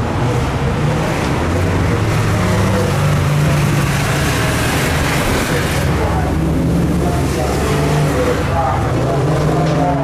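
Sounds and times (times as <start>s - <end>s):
broad noise wash: 0.0s - 10.0s
car engine driving: 0.0s - 10.0s.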